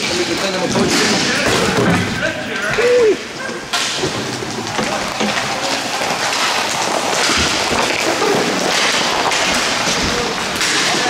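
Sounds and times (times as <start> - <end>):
clatter of hockey sticks and puck: 0.0 - 2.8, 3.7 - 11.0.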